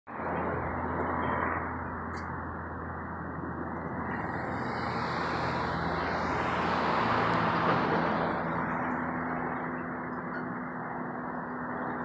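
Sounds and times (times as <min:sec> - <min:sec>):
airplane engine rushing: 0:00.1 - 0:12.0.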